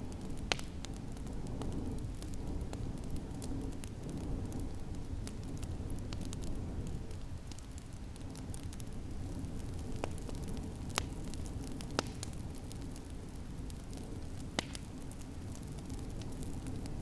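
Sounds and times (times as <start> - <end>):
sharp pops of fire: 0.0 - 17.0
wood fire crackling: 0.0 - 17.0.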